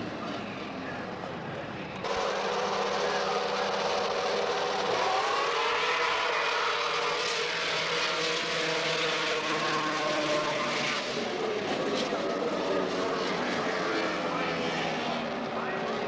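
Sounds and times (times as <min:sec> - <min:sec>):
snowmobile engines at high revs: 0:02.0 - 0:16.0.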